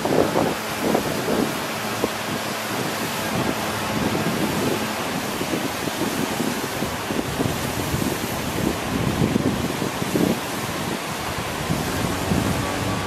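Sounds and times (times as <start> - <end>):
river water over rapids: 0.0 - 13.0
wind buffeting microphone: 0.0 - 13.0.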